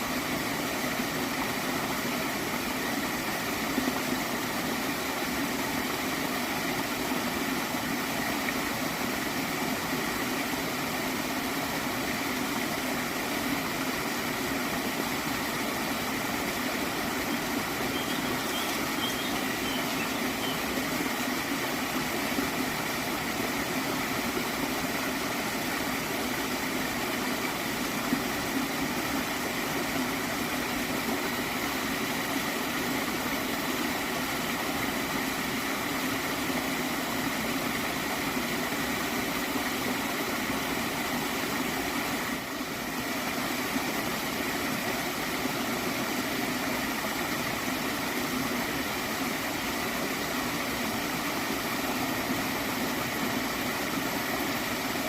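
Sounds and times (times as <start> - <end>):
stream water gurgling: 0.0 - 55.0.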